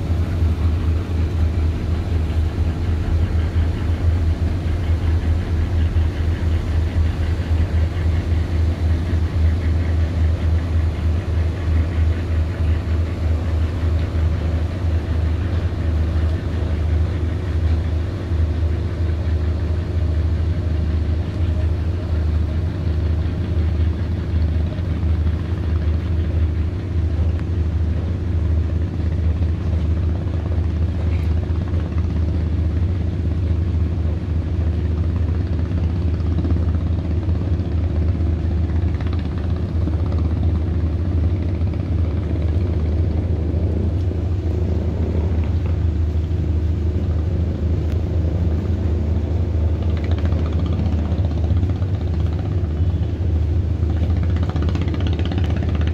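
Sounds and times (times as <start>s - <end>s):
boat engine rumbling: 0.0s - 55.9s.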